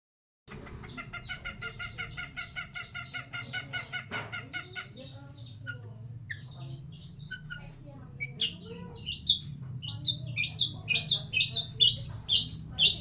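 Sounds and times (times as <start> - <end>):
bird chirping: 0.5 - 13.0.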